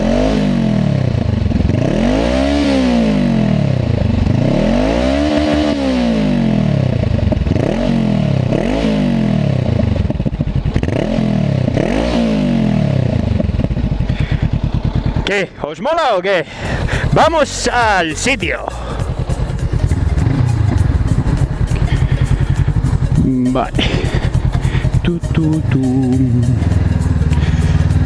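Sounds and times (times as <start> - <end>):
motorcycle engine revving: 0.0 - 15.6, 16.5 - 28.0.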